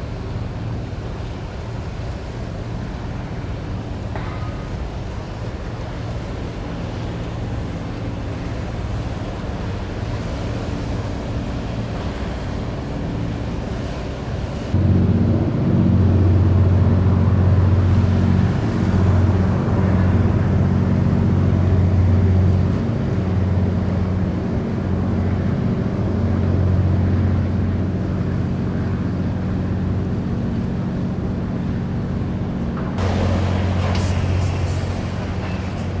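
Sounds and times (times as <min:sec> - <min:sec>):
faint water noise: 0:00.0 - 0:36.0
ferry diesel engines droning: 0:00.0 - 0:36.0.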